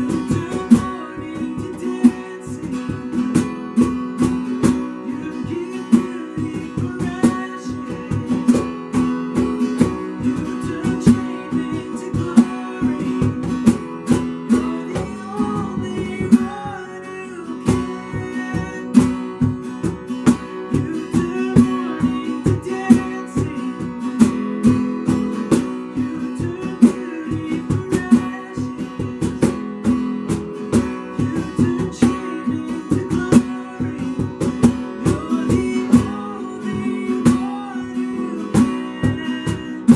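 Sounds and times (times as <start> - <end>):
acoustic guitar strumming worship music: 0.0 - 39.9.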